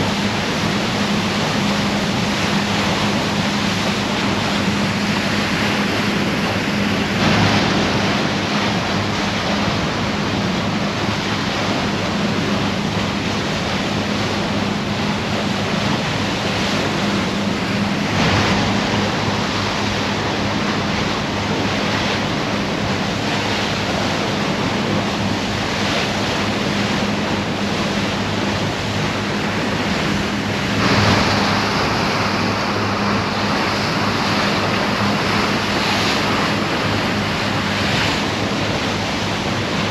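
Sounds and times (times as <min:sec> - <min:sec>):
sea water rushing: 0:00.0 - 0:39.9
ship engine drone: 0:00.0 - 0:39.9
wave breaking over bow: 0:00.0 - 0:39.9
wind: 0:00.0 - 0:39.9.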